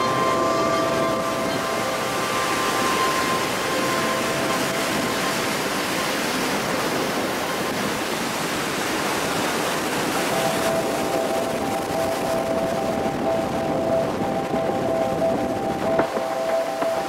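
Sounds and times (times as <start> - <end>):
strong wind: 0.0 - 17.0
waves breaking on shore: 0.0 - 17.0.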